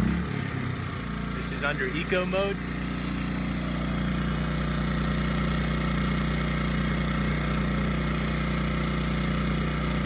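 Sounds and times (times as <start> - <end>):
inverter generator running: 0.0 - 10.0.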